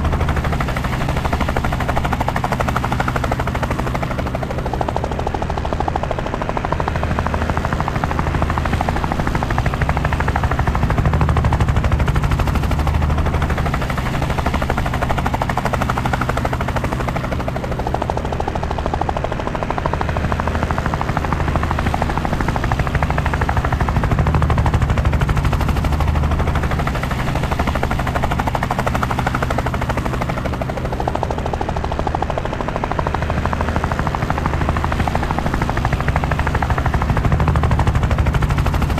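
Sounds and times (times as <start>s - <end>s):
helicopter rotor chop: 0.0s - 38.9s.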